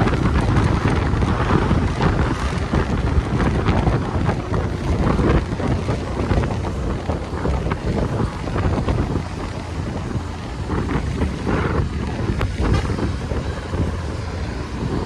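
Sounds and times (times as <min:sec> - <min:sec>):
vehicle moving on road: 0:00.0 - 0:15.0
wind buffeting microphone: 0:00.0 - 0:15.0.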